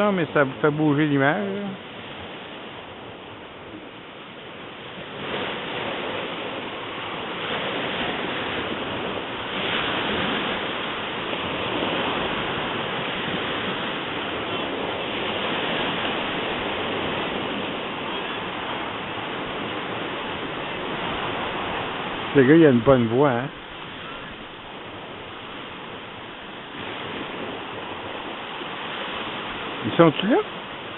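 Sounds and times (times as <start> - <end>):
sea waves washing onto shore: 0.0 - 30.9.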